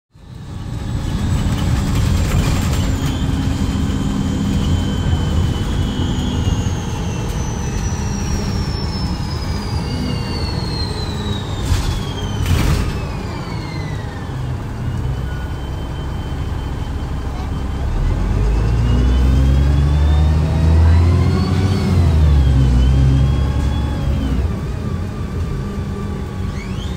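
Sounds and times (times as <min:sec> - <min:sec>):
bus diesel engine running: 0:00.1 - 0:26.9
high whines falling in pitch: 0:02.8 - 0:24.4.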